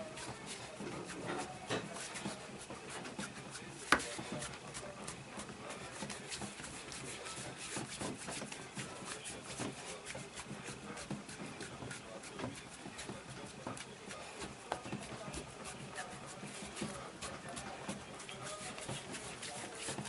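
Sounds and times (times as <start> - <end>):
hands rubbing skin: 0.0 - 20.0.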